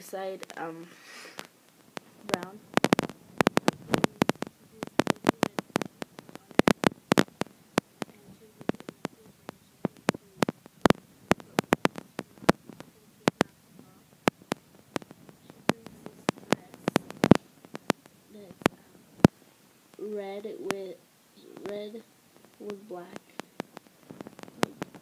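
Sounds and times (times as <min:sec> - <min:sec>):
faint murmur: 0:00.0 - 0:25.0.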